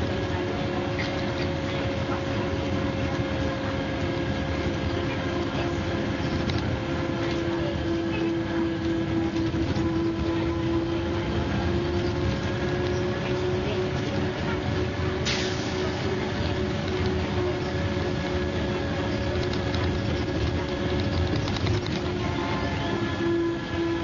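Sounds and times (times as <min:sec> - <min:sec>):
bus engine running: 0:00.0 - 0:24.0
road noise: 0:00.0 - 0:24.0
steady whine: 0:00.0 - 0:24.0.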